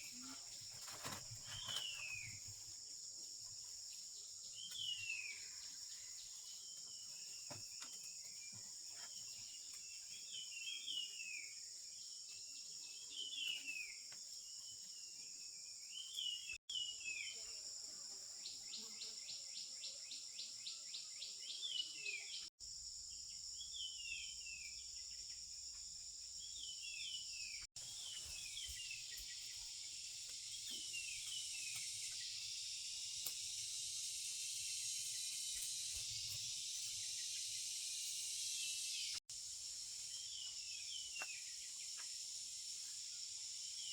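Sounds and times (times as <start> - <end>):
insect chorus: 0.0 - 43.9.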